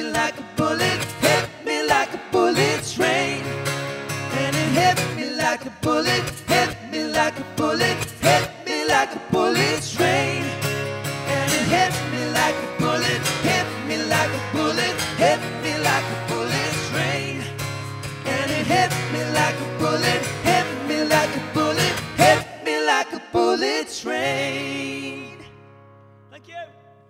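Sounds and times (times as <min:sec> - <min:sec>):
strummed acoustic guitar: 0:00.0 - 0:23.0
wordless vocals: 0:00.0 - 0:25.6.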